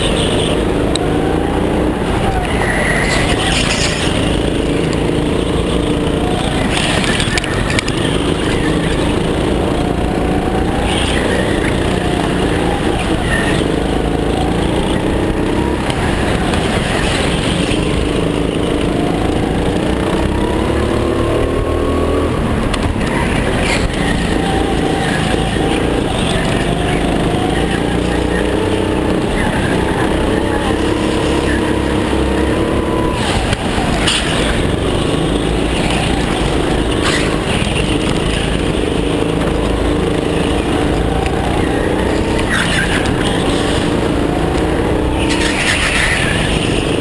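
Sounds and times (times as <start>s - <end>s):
go-kart engine revving: 0.0s - 47.0s.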